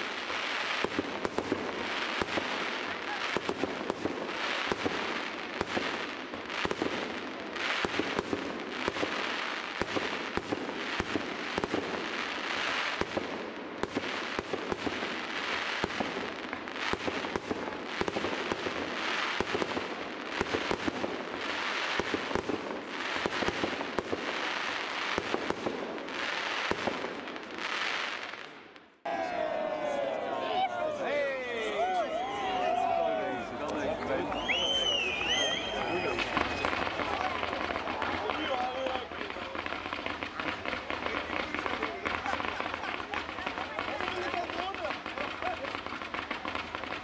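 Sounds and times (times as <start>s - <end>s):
fireworks bangs: 0.0s - 47.0s
fireworks crackling: 0.0s - 47.0s.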